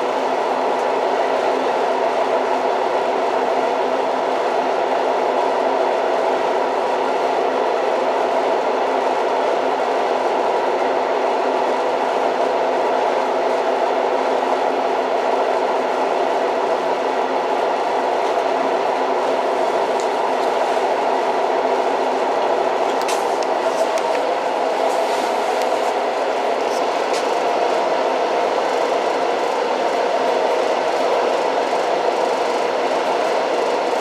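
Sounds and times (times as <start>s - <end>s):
train rolling on rails: 0.0s - 34.0s.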